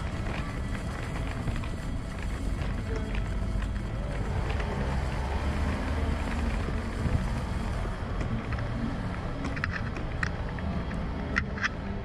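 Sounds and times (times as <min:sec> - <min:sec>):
wind rumble on camera microphone: 0:00.0 - 0:12.0.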